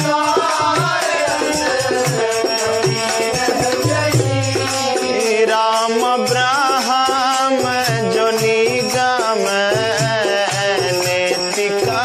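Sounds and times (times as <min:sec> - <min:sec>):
devotional song melody: 0:00.0 - 0:12.0
shaker percussion: 0:00.0 - 0:12.0
tabla: 0:00.0 - 0:12.0.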